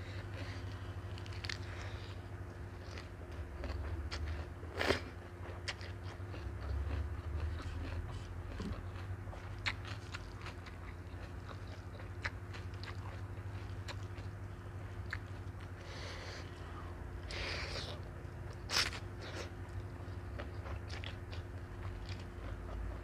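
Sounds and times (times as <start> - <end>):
steady low hum: 0.0 - 23.0
wet crisp chewing crunches: 0.4 - 14.4, 17.3 - 23.0.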